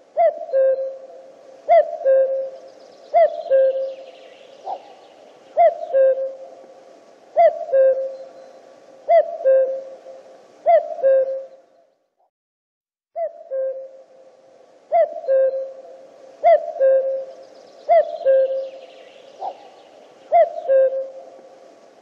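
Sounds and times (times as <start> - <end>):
cuckoo calling: 0.0 - 6.7, 7.4 - 11.9, 13.2 - 14.3, 14.9 - 21.7.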